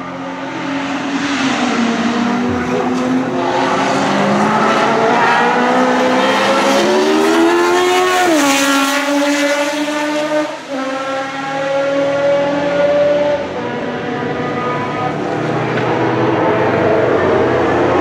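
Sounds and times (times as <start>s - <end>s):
racing car engine at high revs: 0.0s - 18.0s.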